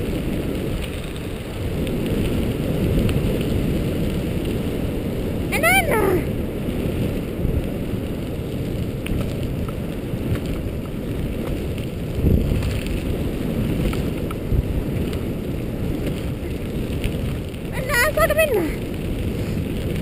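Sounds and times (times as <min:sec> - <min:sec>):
tyres rolling on gravel: 0:00.0 - 0:20.0
wind buffeting microphone: 0:00.0 - 0:20.0.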